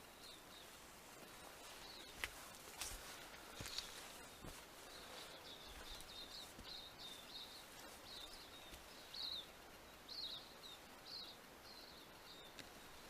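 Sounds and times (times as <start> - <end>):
small bird chirping: 0.0 - 2.6, 3.7 - 13.0
faint outdoor hiss: 0.0 - 13.0.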